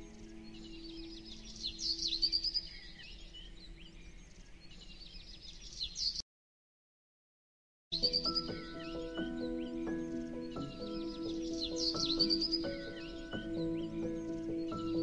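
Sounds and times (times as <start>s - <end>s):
birds chirping: 0.0s - 6.2s, 8.0s - 15.0s.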